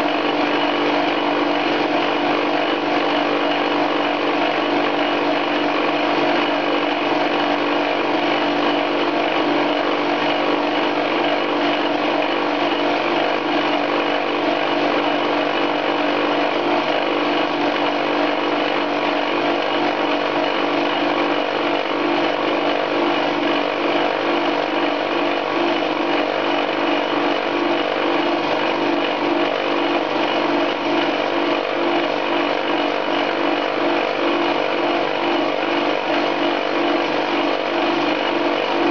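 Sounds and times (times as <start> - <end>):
metal lathe machining steel: 0.0 - 38.9.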